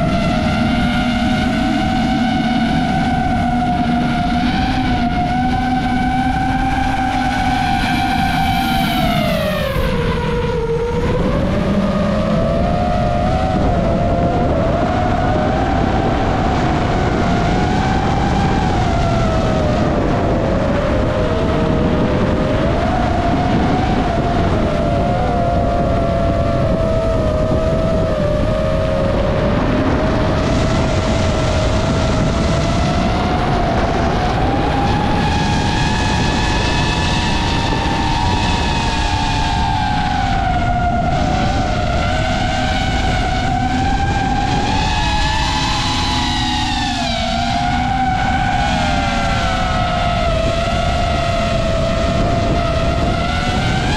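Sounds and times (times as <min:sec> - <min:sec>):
drone motors whining: 0:00.0 - 0:53.9
rushing wind noise: 0:00.0 - 0:53.9.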